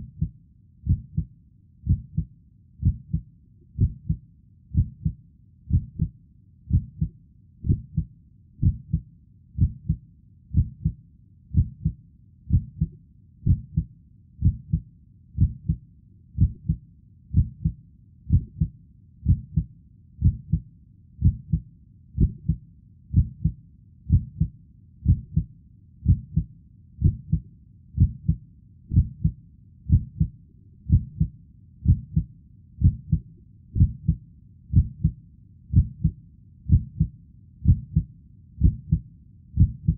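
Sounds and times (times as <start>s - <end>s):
heartbeat thumps: 0.0s - 9.0s, 9.6s - 14.8s, 15.4s - 15.8s, 16.4s - 20.6s, 21.2s - 21.6s, 22.2s - 27.4s, 28.0s - 39.0s, 39.6s - 39.9s.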